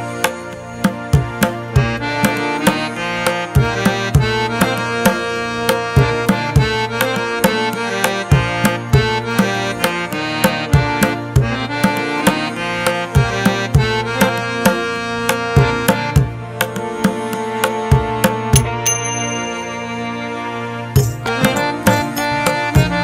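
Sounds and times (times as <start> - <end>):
instrumental music with drum beat: 0.0 - 23.0.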